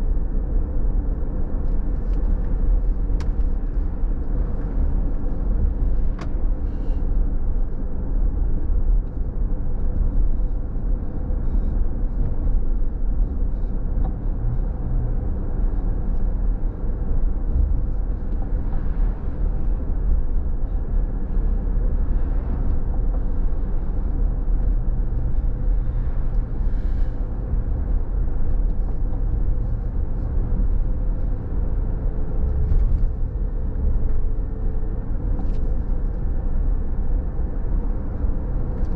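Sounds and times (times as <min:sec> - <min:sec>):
engine and tyre rumble: 0:00.0 - 0:38.9.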